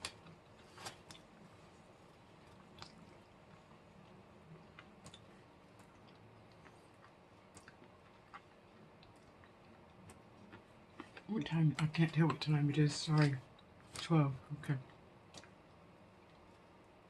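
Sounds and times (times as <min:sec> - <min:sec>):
faint chewing: 0:00.0 - 0:14.1, 0:14.8 - 0:17.0.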